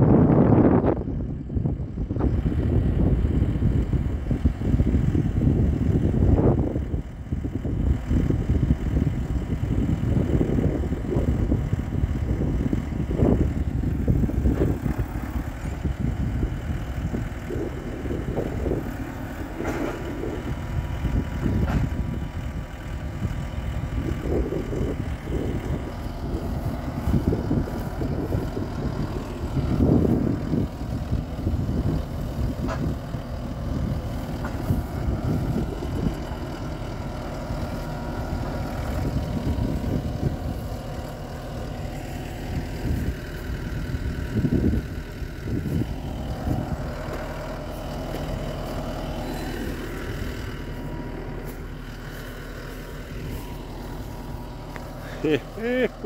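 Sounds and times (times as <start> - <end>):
tractor engine idling: 0.0 - 56.0
wind buffeting microphone: 0.0 - 56.0.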